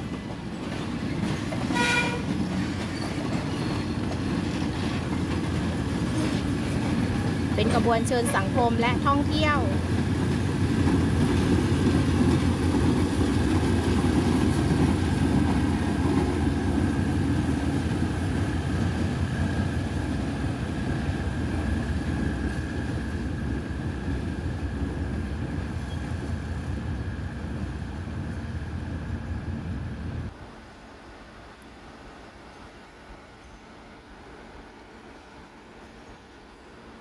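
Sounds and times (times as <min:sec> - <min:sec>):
locomotive engine and wheel rumble: 0:00.0 - 0:30.5.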